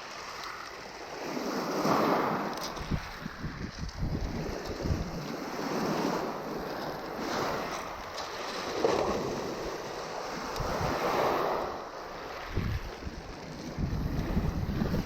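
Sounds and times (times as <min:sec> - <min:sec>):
sea waves breaking on beach: 0:00.0 - 0:15.0
wind on microphone: 0:01.9 - 0:08.1, 0:08.8 - 0:15.0.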